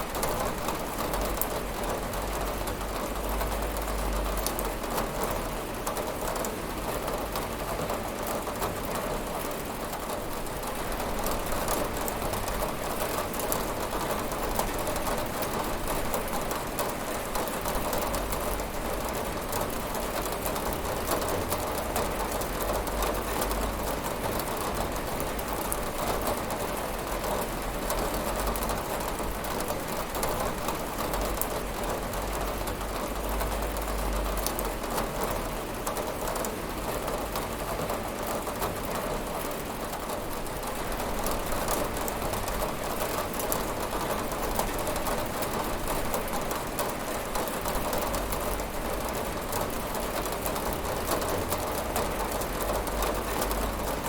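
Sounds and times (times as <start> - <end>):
rain pattering on a window: 0.0 - 54.0.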